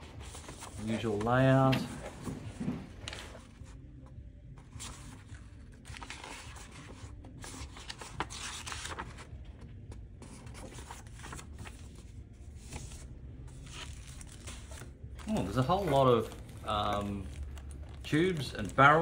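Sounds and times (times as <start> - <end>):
paper pages rustling: 0.0 - 3.8, 4.6 - 19.0.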